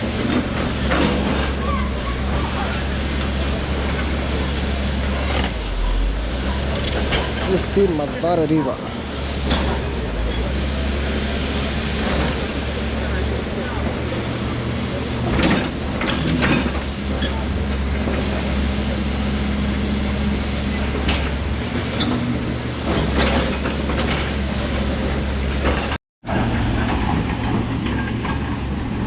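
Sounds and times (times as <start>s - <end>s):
knocks and clatter: 0.0s - 8.4s, 9.3s - 10.7s, 11.8s - 18.9s, 20.8s - 29.0s
engine running with low hum: 0.0s - 29.0s.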